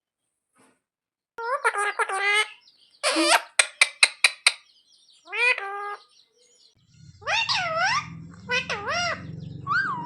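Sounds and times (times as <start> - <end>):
parrot calling: 1.4 - 10.0.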